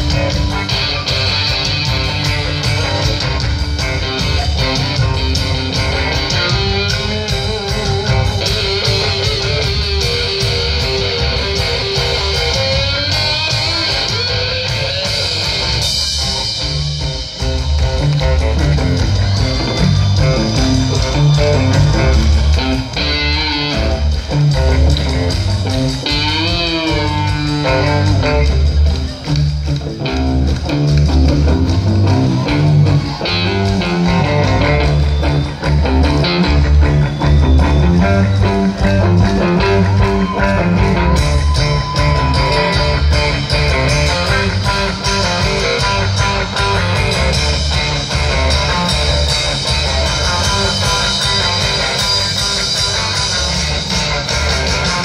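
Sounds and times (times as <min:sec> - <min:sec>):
bass guitar: 0:00.0 - 0:55.0
electric guitars: 0:00.0 - 0:55.0
rock drums: 0:00.0 - 0:55.0.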